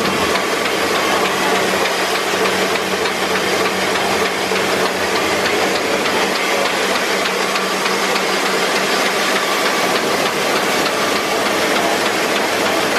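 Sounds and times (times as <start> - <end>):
printing press running: 0.0 - 12.9
light mechanical ticks: 0.3 - 12.5.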